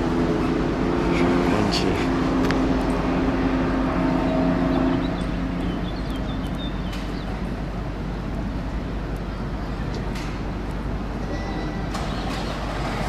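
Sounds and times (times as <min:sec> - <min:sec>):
outdoor background noise: 0:00.0 - 0:13.0
vehicle engine droning: 0:00.0 - 0:13.0.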